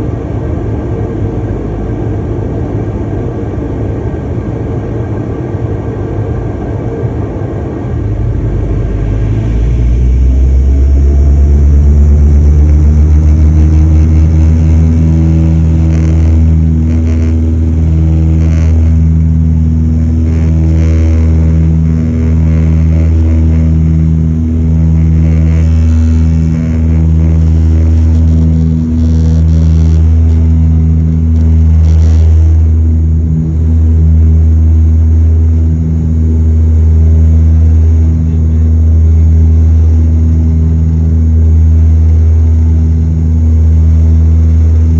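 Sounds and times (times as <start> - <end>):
turboprop engine cabin drone: 0.0 - 44.9.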